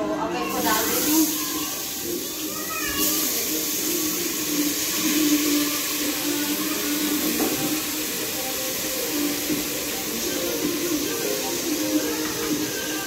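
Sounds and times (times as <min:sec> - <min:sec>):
sizzling hiss: 0:00.4 - 0:13.0.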